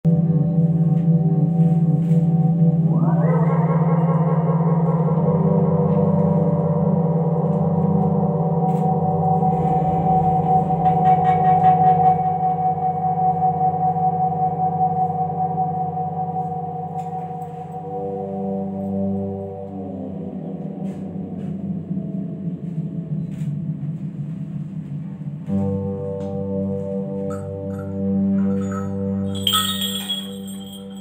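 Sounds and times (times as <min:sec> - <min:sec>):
drone music with echo: 0:00.0 - 0:31.0.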